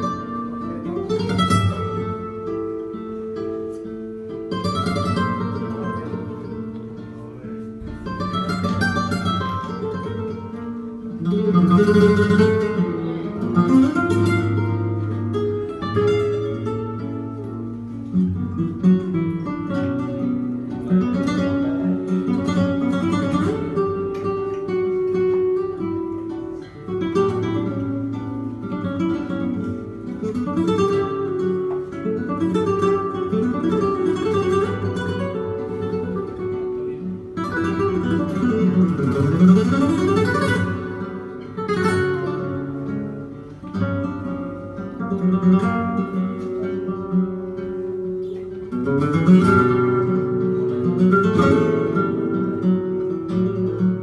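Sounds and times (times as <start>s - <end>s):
flamenco guitars playing: 0.0s - 54.0s.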